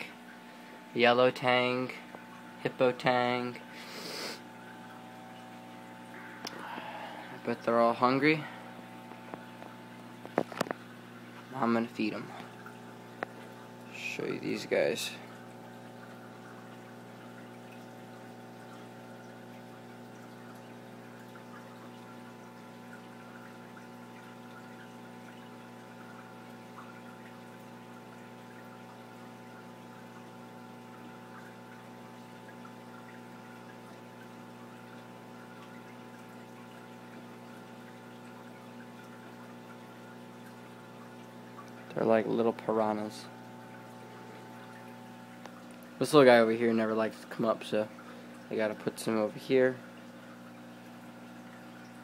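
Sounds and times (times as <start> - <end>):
aquarium pump humming: 0.0 - 52.0
faint running water: 0.0 - 52.0.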